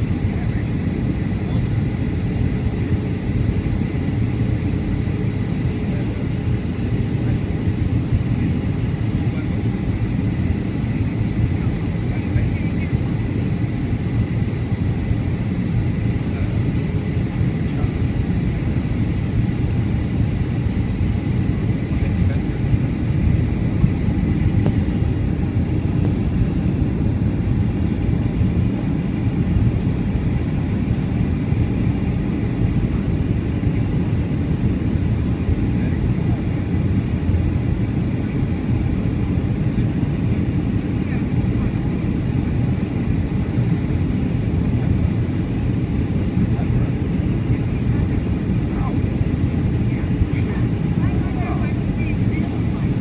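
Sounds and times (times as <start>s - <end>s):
aircraft cabin engine rumble: 0.0s - 53.0s.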